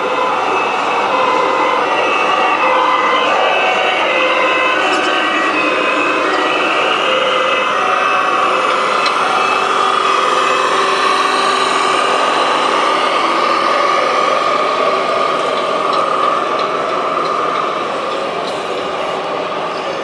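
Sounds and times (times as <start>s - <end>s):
model truck electric motor whine: 0.1s - 18.4s.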